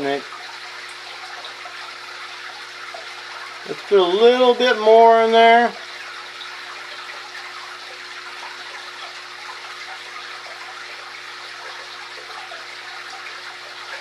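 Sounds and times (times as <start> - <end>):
aquarium water trickling: 0.0 - 14.0.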